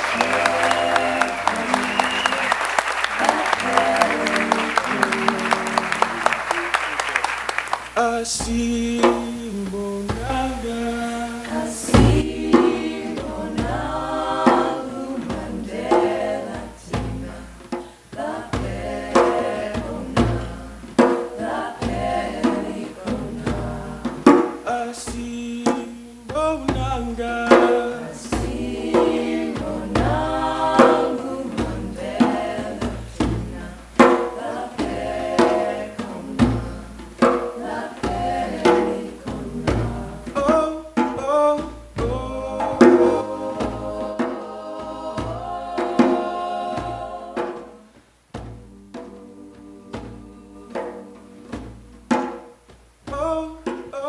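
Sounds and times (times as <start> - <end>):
hand drum beating: 0.0 - 7.2, 11.5 - 53.9
group singing a chant: 0.0 - 52.5.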